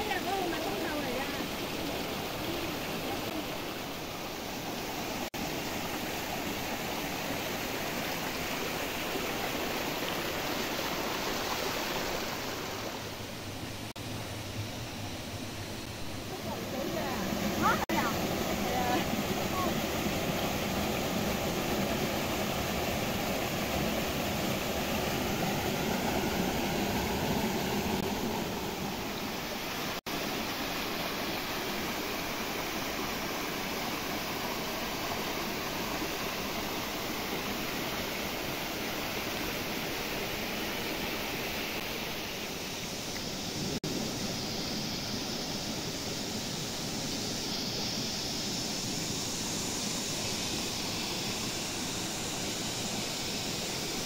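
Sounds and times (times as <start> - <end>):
stream rushing over rocks: 0.0 - 14.0, 15.4 - 54.0.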